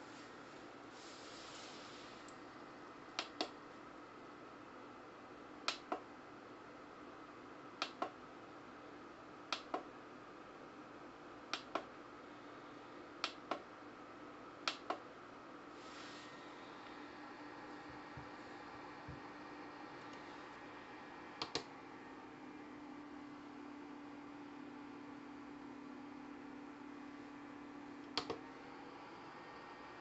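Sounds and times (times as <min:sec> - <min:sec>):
dehumidifier humming: 0:00.0 - 0:30.0.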